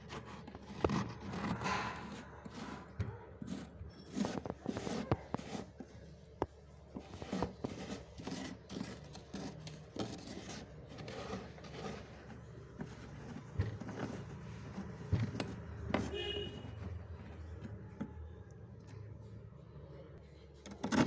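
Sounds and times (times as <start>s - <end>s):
frost crunching and scraping: 0.0s - 19.2s.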